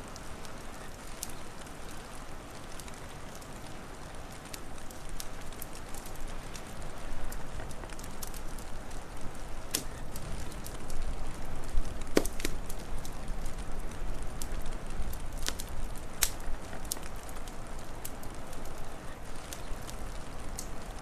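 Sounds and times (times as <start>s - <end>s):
wood fire crackling: 0.0s - 21.0s
fire pops: 0.1s - 21.0s.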